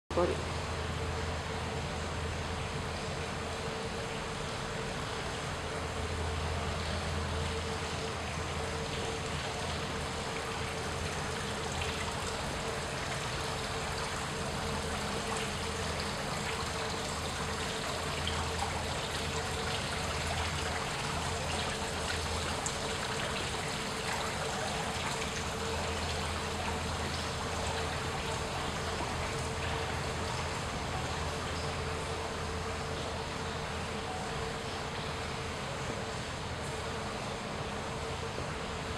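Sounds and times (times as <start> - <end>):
fountain trickling: 0.2 - 38.9.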